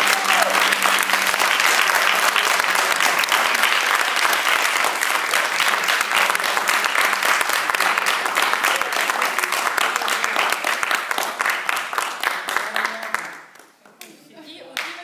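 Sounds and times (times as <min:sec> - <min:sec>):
crowd applauding: 0:00.0 - 0:13.8.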